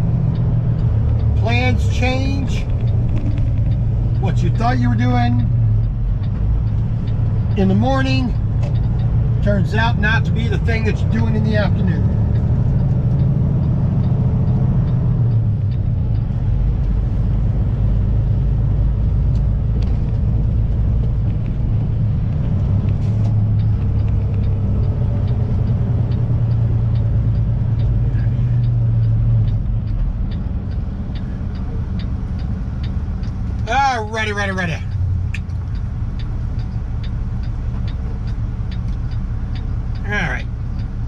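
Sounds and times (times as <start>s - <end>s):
faint regular ticking: 0.0s - 41.0s
truck diesel engine droning: 0.0s - 41.0s.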